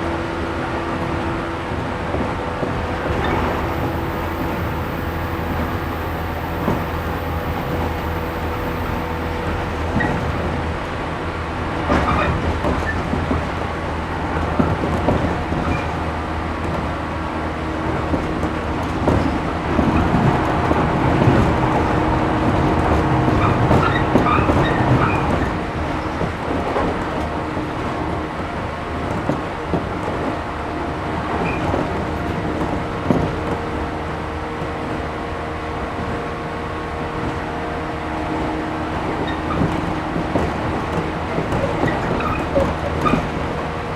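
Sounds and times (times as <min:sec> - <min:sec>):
rail and wheel rumble: 0:00.0 - 0:43.9
train interior hum: 0:00.0 - 0:43.9.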